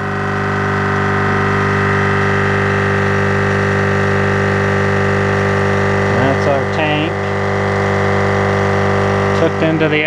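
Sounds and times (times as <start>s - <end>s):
air compressor humming: 0.0s - 10.0s.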